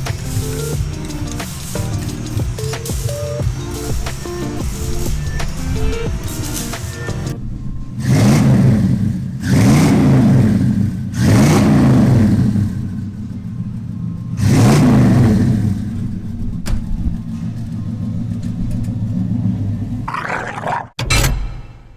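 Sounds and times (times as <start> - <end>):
truck engine idling and revving: 0.0 - 20.1.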